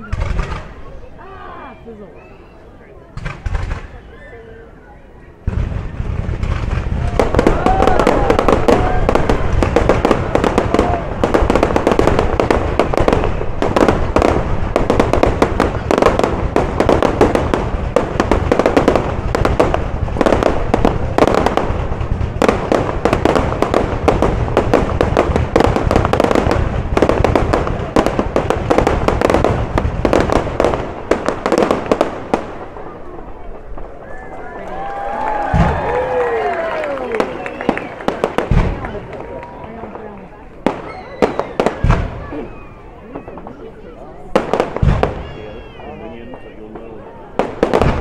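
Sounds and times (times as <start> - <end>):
fireworks bangs and crackles: 0.0 - 1.7, 3.0 - 48.0.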